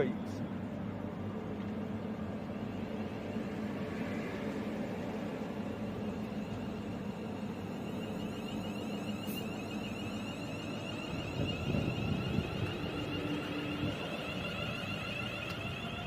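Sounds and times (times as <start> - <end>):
high-pitched train whine: 0.0 - 16.0
low train rumble: 0.0 - 16.0.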